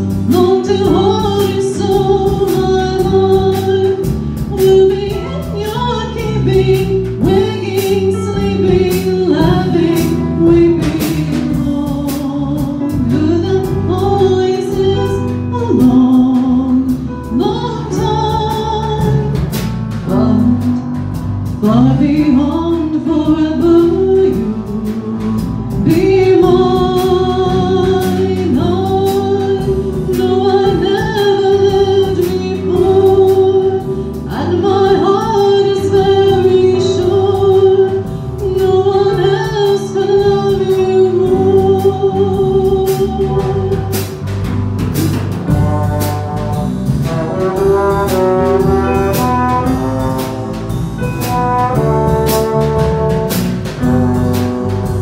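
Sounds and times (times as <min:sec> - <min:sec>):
drum kit cymbal and drum strokes: 0:00.0 - 0:55.0
trombone sliding melody: 0:00.1 - 0:55.0.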